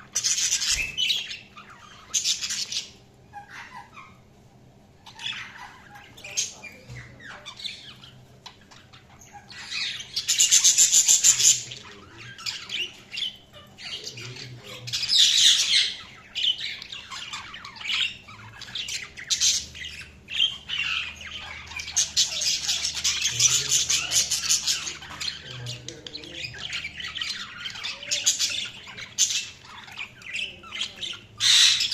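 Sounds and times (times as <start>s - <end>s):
budgerigars chirping: 0.0s - 4.4s, 5.0s - 31.9s
harsh bird squawks: 5.1s - 31.9s.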